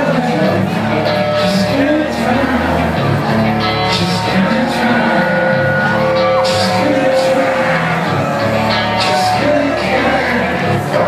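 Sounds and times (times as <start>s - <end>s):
live rap-metal band: 0.0s - 11.0s
shouted vocals: 0.0s - 11.0s.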